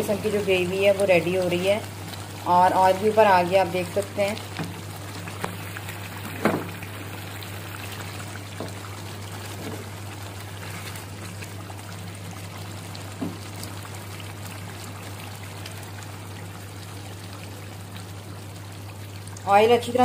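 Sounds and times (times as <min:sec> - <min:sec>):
curry bubbling in a pan: 0:00.0 - 0:20.0.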